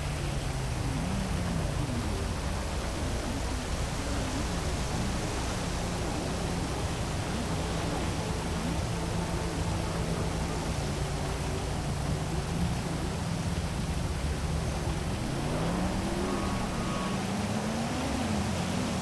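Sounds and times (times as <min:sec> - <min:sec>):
heavy rain hiss: 0:00.0 - 0:19.0
vehicle accelerating: 0:00.0 - 0:19.0
vehicle engines humming: 0:00.0 - 0:19.0.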